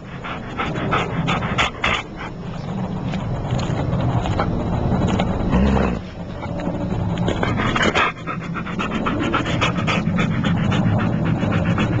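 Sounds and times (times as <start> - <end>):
dog panting: 0.0 - 5.3, 6.2 - 12.0
steady low hum: 0.0 - 12.0.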